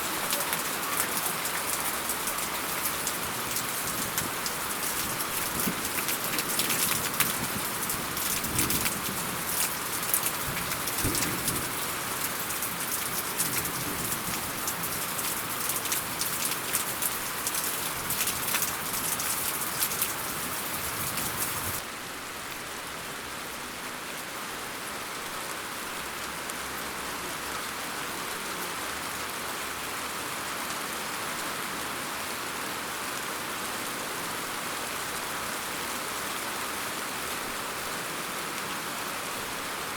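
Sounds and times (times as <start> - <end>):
rain drops hitting close by: 0.0 - 39.9
rain hiss: 0.0 - 39.9.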